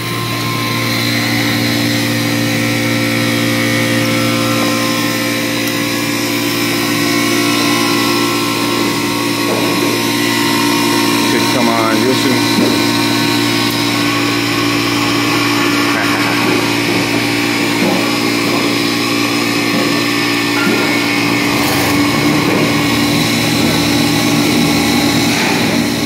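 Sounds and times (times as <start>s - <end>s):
ice machine humming: 0.0s - 26.0s.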